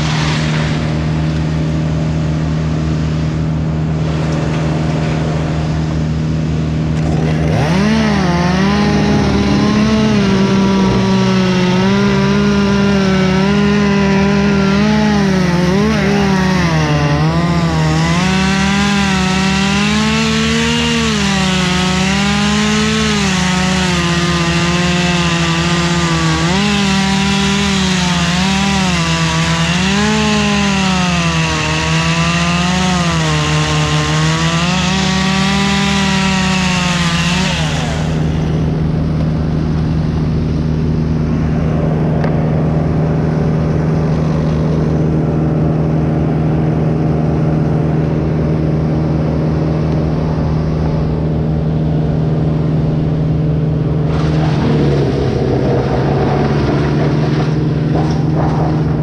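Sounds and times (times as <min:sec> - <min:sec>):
chainsaw cutting wood: 0:00.0 - 0:59.0
steady engine hum: 0:00.0 - 0:59.0.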